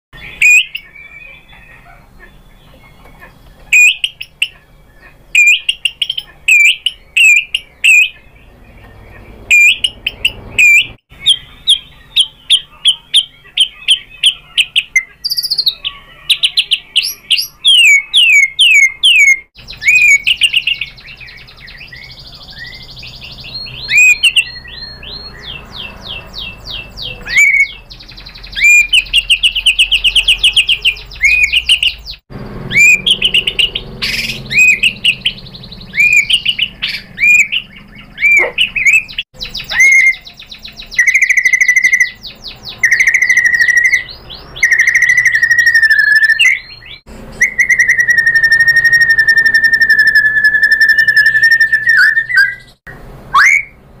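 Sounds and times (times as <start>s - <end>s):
bird singing varied song: 0.2s - 53.8s.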